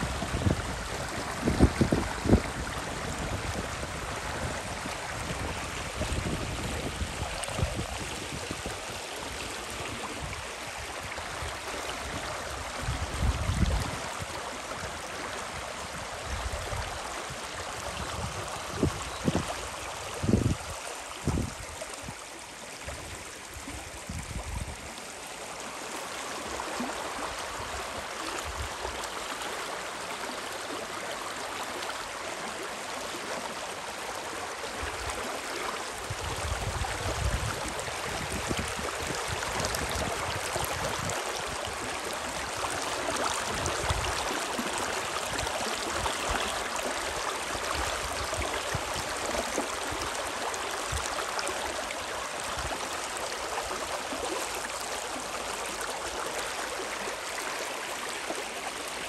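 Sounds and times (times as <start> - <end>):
river water rushing and gurgling: 0.0 - 59.0.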